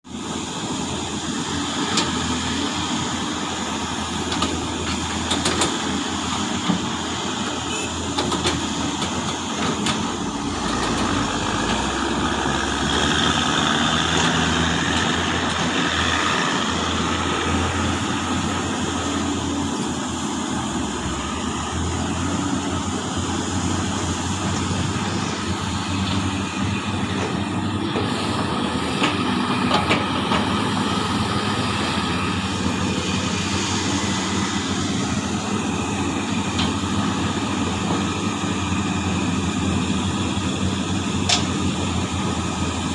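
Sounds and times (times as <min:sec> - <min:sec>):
excavator diesel engine running: 0:00.1 - 0:42.9.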